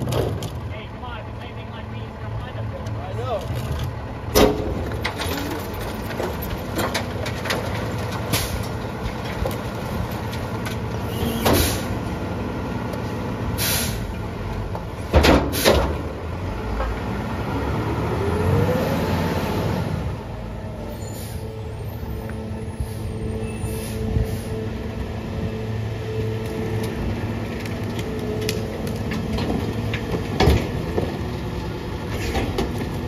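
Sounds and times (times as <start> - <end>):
garbage truck diesel engine: 0.0 - 33.0.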